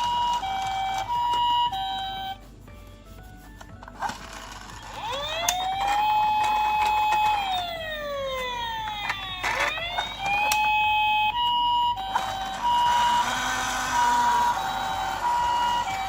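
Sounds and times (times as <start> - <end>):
toy ambulance siren wailing: 0.0 - 2.5, 4.0 - 16.0.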